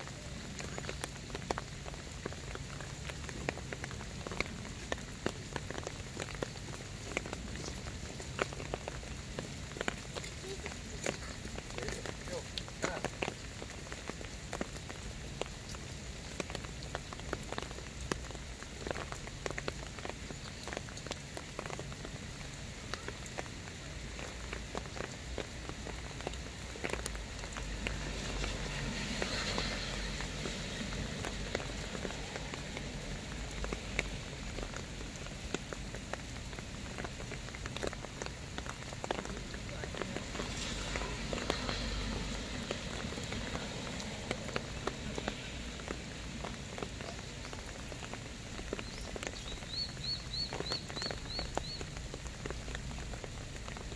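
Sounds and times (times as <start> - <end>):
rain falling on soil and grass: 0.0 - 53.9.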